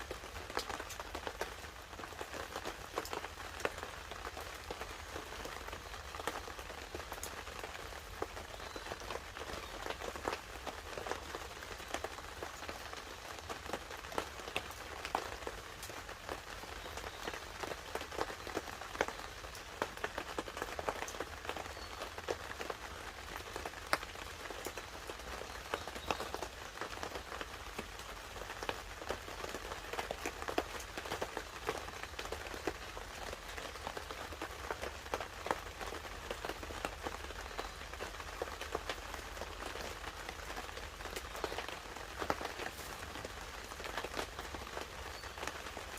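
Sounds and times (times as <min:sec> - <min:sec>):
light rain pattering on a tarp: 0:00.0 - 0:45.9.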